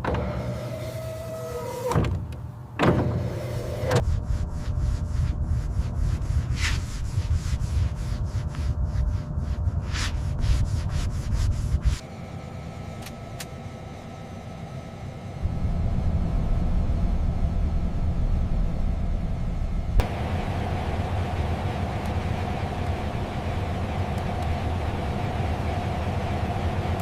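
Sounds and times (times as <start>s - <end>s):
steady low rumble: 4.0s - 27.0s.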